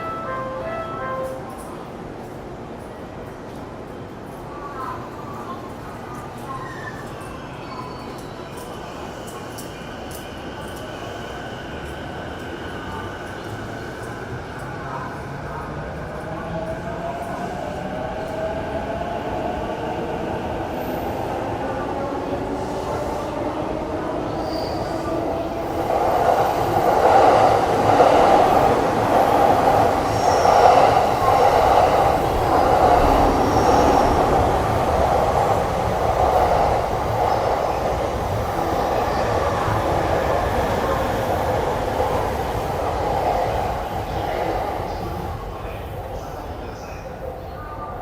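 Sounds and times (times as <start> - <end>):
train wheels rumbling on track: 0.0 - 47.3.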